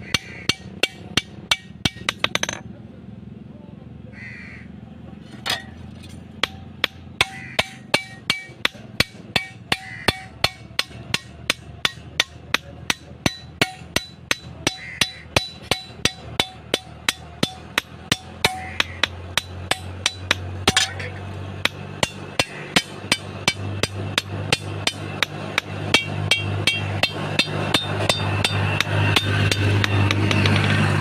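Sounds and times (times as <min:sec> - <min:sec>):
hammer striking metal on anvil: 0:00.0 - 0:02.7, 0:05.4 - 0:31.0.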